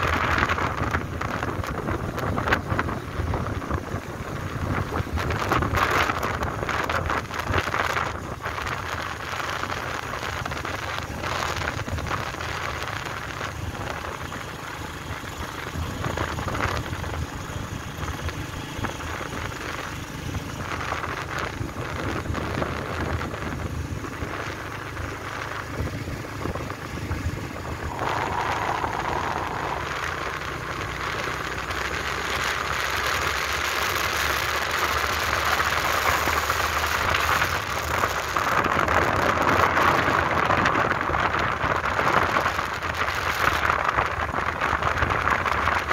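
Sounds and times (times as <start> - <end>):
wind buffeting microphone: 0.0 - 32.8, 36.6 - 45.9
motorbike engine: 0.0 - 45.9
road noise: 0.0 - 45.9.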